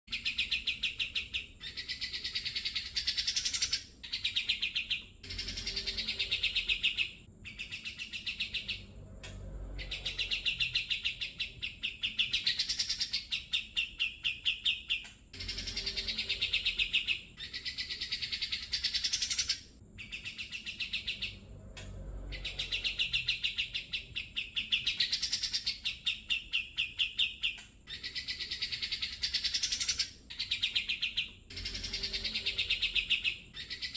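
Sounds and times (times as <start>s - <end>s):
bird song with rapid trills: 0.1s - 33.9s.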